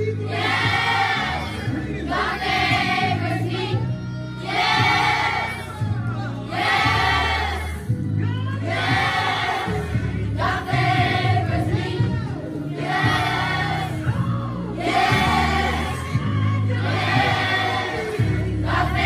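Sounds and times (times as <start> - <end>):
children's choir singing: 0.3 - 5.7, 6.5 - 7.9, 8.6 - 12.0, 12.6 - 19.0.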